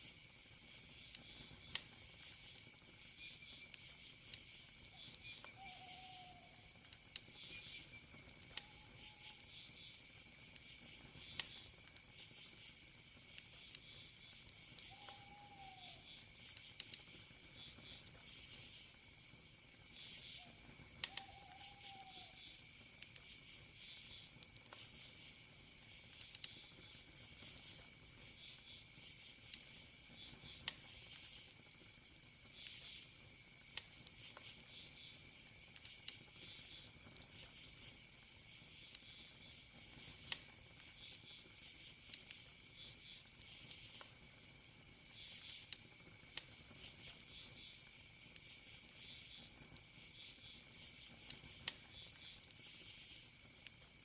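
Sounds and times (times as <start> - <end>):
campfire wood crackling: 0.0 - 54.0
crickets chirping: 0.0 - 54.0.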